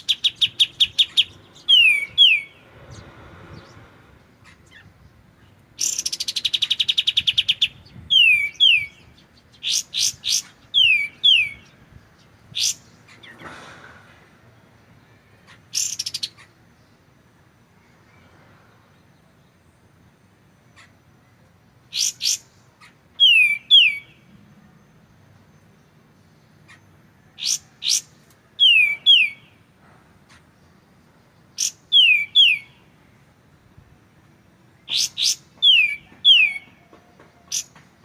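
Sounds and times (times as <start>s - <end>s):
bird trill: 0.0s - 13.5s, 14.6s - 17.1s, 20.2s - 33.2s, 34.7s - 38.0s.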